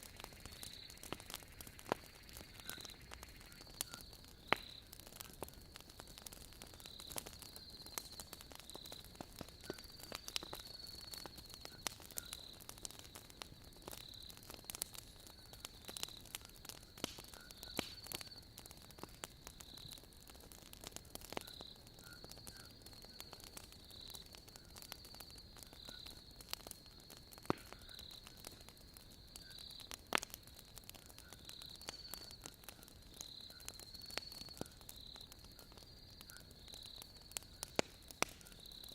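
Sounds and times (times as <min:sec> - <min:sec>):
crickets chirping: 0:00.0 - 0:20.4, 0:21.0 - 0:38.9
wood fire crackling: 0:00.0 - 0:38.9.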